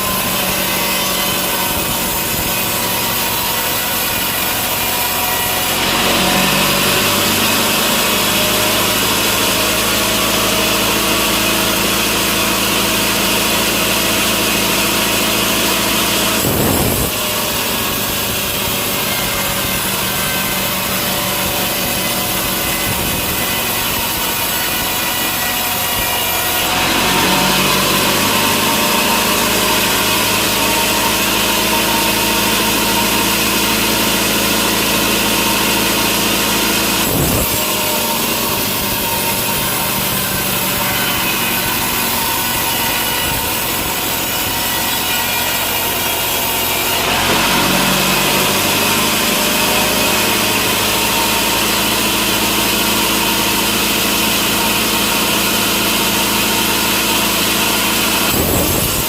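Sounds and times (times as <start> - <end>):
sawmill saw cutting log: 0.0 - 59.0
steady machine hum: 0.0 - 59.0.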